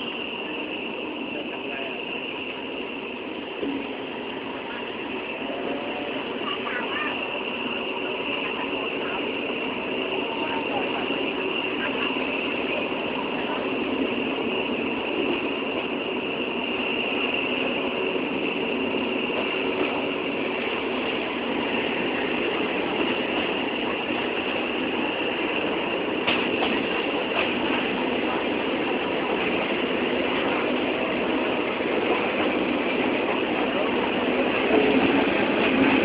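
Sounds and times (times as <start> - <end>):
train running: 0.0 - 36.0.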